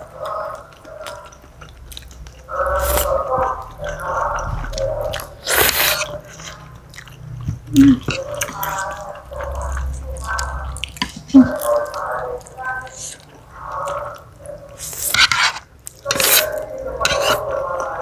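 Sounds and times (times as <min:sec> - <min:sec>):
noodles slurped and chewed: 0:00.0 - 0:18.0.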